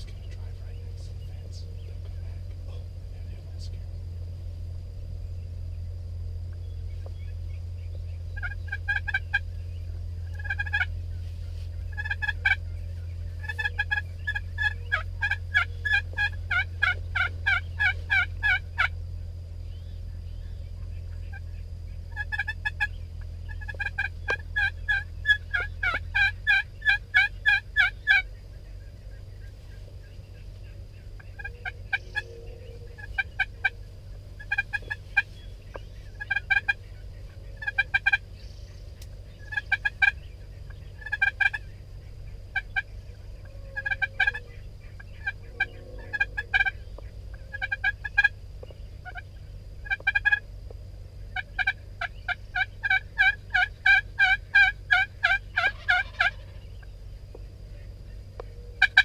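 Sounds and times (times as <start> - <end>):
low rumble: 0.0 - 59.0
turkeys yelping: 6.5 - 59.0.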